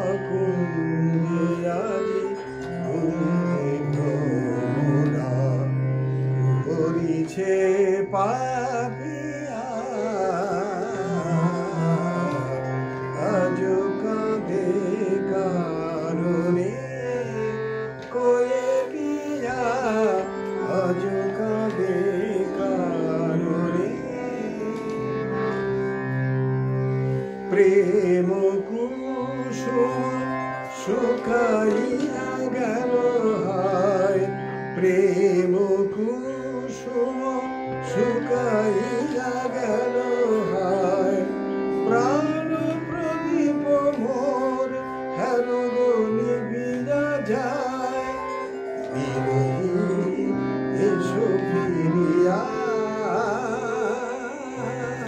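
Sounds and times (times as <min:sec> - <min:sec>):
man singing: 0:00.0 - 0:25.9, 0:27.3 - 0:55.0.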